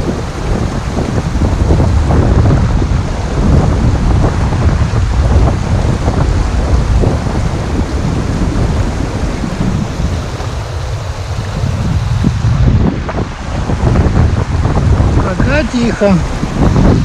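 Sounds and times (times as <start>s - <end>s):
river water rushing over stones: 0.0s - 17.0s
wind buffeting microphone: 0.0s - 17.0s.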